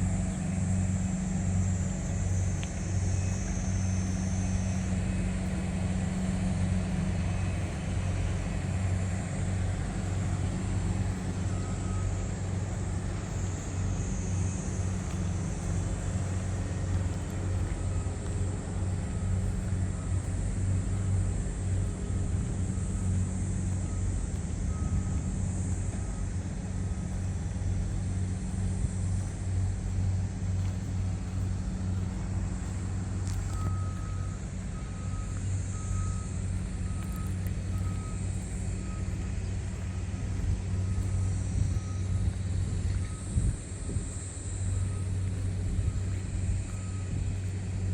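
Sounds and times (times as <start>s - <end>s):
diesel engine running: 0.0s - 47.9s
electronic warning beep: 0.3s - 30.0s, 30.7s - 47.9s.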